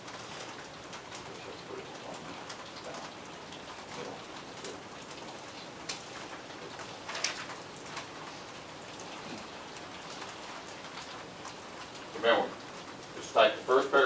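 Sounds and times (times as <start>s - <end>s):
room noise hiss: 0.0s - 14.0s.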